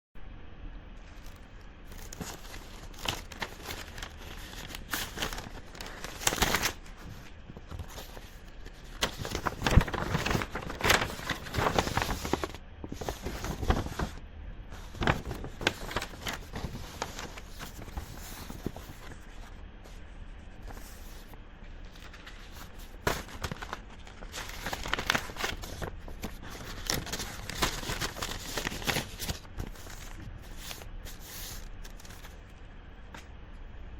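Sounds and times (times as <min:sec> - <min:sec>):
paper rustling and crinkling: 0:01.0 - 0:33.3.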